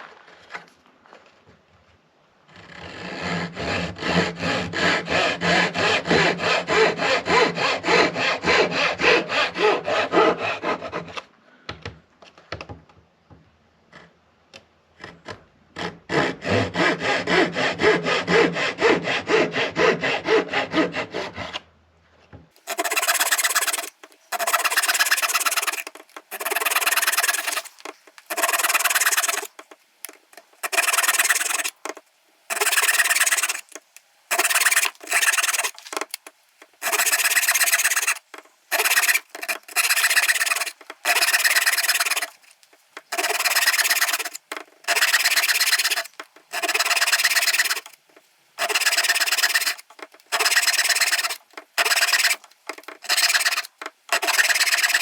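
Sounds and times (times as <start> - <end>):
hand saw cutting wood: 2.5 - 11.3, 15.0 - 21.7, 22.6 - 55.0.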